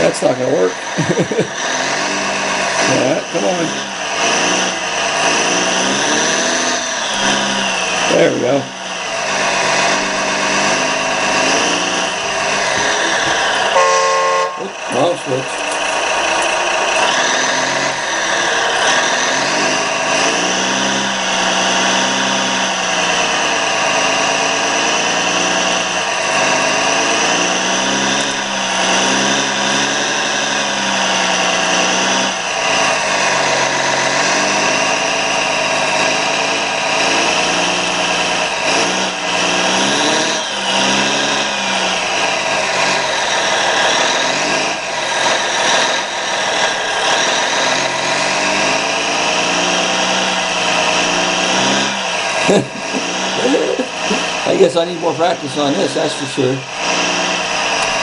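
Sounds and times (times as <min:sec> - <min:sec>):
diesel engine sound revving: 0:00.0 - 0:58.0.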